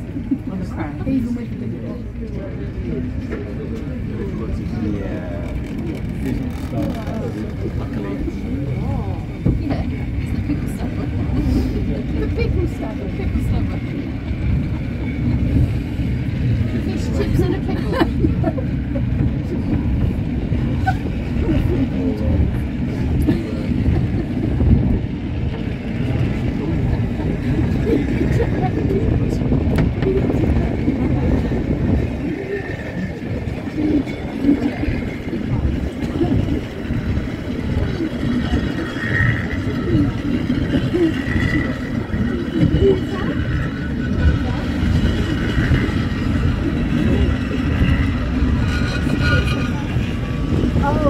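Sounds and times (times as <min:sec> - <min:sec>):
railway car wheels rumbling on track: 0:00.0 - 0:51.0.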